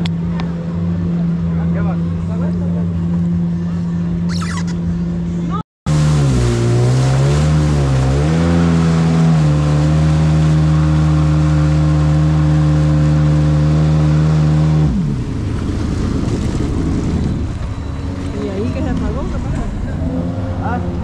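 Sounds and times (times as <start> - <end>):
jet ski engine running: 0.0 - 21.0.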